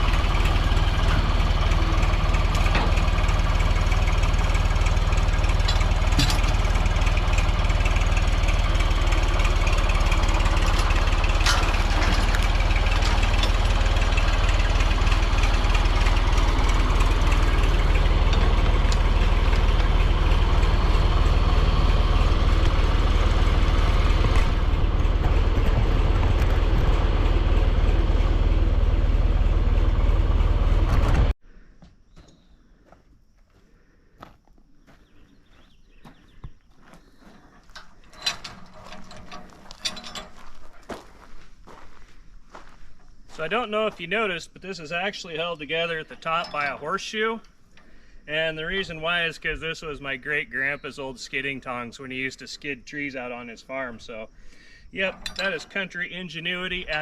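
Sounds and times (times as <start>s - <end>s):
tractor engine running: 0.0s - 31.4s, 34.2s - 57.0s.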